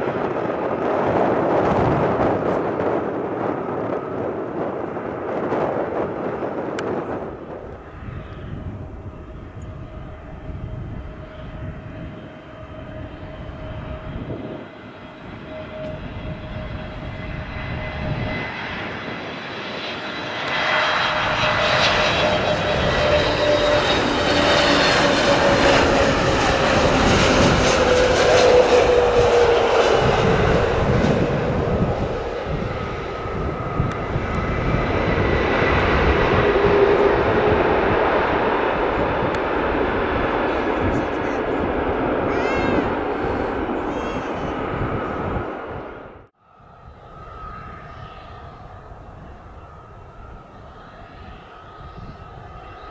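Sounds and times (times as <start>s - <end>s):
airliner jet engines: 0.0s - 52.9s.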